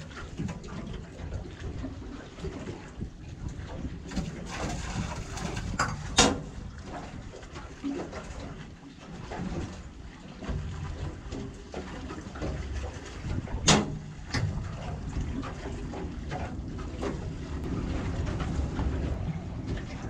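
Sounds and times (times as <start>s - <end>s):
low rumble of wind: 0.0s - 20.0s
water lapping against boat hull: 0.0s - 20.0s.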